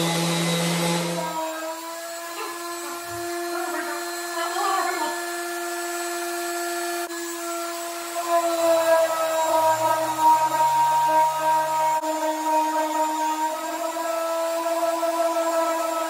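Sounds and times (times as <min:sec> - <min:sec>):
orbital sander whining: 0:00.0 - 0:16.0.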